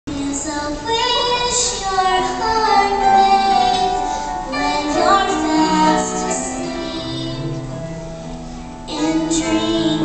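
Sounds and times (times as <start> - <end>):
children's choir singing: 0.3 - 7.8, 8.9 - 10.0.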